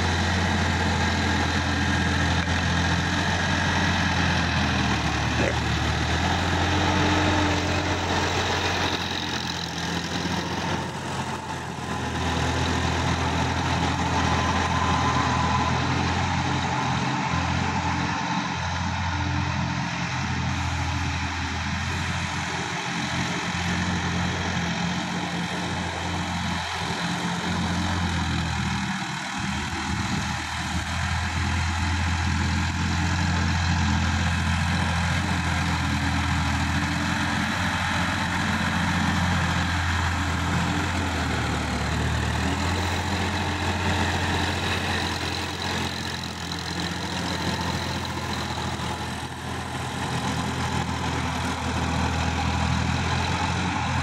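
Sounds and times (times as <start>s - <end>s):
rotary tiller churning soil: 0.0s - 19.2s, 21.8s - 54.0s
tractor diesel engine running: 0.0s - 54.0s.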